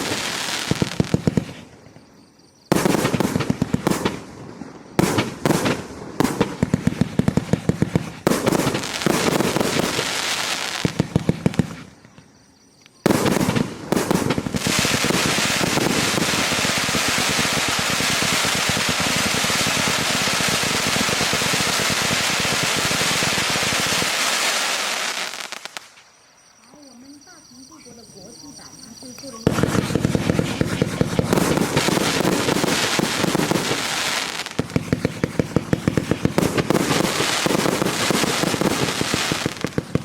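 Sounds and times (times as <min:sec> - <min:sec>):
firework rapid crackling: 0:00.0 - 0:01.7, 0:02.7 - 0:04.4, 0:05.0 - 0:12.0, 0:13.0 - 0:26.0, 0:29.4 - 0:40.0
firework reports: 0:00.0 - 0:01.8, 0:02.7 - 0:12.0, 0:13.0 - 0:26.0, 0:28.7 - 0:40.0.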